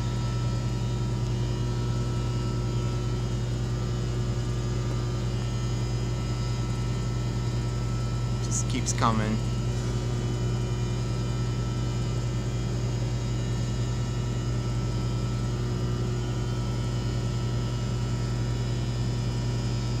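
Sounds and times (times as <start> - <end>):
low mechanical hum with tones: 0.0 - 20.0.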